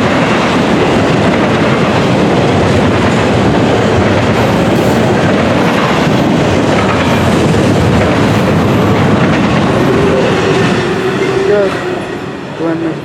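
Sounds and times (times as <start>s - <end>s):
freight train wheels rumbling on track: 0.0s - 13.0s.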